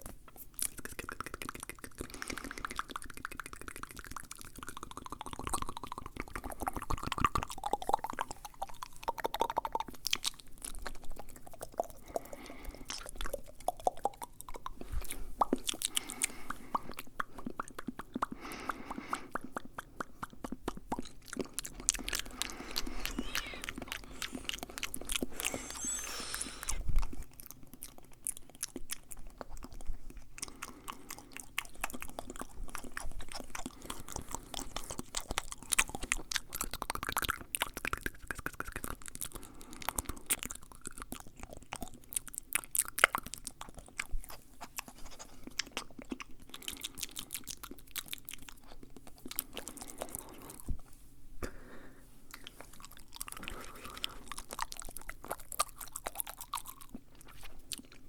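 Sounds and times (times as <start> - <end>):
wet mouth clicks and smacks: 0.0 - 50.9, 52.3 - 58.0.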